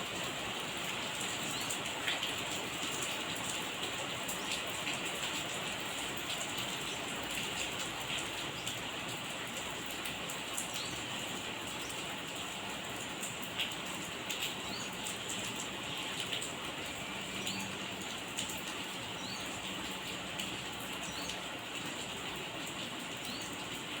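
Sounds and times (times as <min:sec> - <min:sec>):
steady rain hiss: 0:00.0 - 0:24.0
raindrops ticking: 0:00.1 - 0:24.0.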